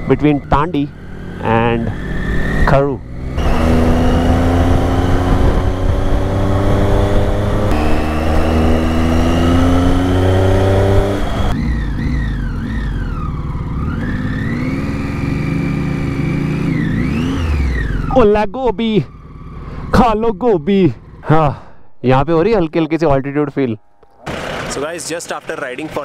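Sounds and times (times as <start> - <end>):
motorcycle engine accelerating: 0.0 - 21.6.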